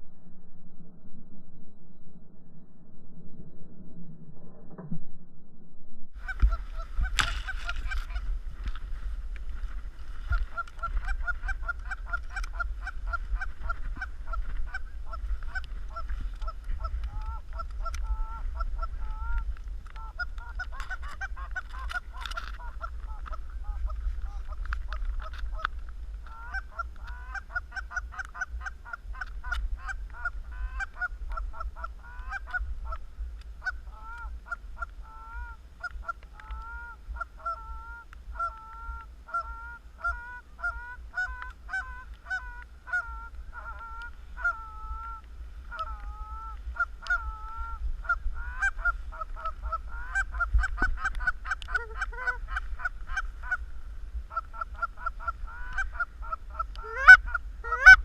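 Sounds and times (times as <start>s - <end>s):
geese honking: 6.2s - 8.3s, 10.1s - 33.0s, 33.6s - 53.6s, 54.3s - 58.0s.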